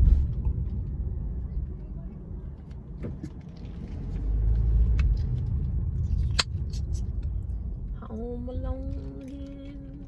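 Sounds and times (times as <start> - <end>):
car driving rumble inside cabin: 0.0 - 10.0.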